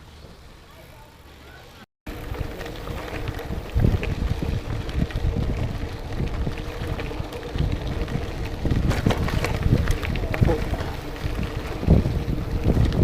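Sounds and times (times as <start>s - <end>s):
bike rolling on rough ground: 0.1s - 13.0s
wind buffeting microphone: 2.1s - 13.0s.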